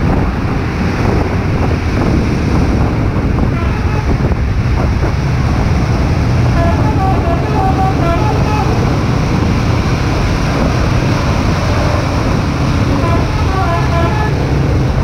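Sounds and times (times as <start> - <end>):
road noise on wet road: 0.0 - 15.0
vehicle engine rumble: 0.0 - 15.0.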